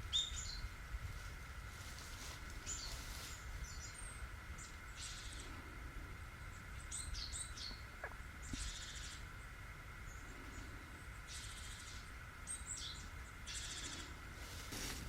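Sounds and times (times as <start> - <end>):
birds chirping: 0.0 - 0.9, 1.9 - 15.0
steady high drone: 0.0 - 15.0.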